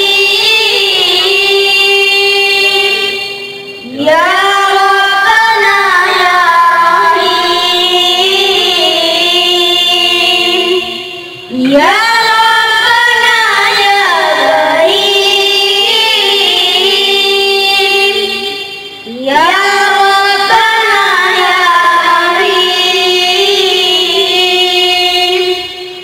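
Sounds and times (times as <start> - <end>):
boys chanting over loudspeaker: 0.0 - 26.0.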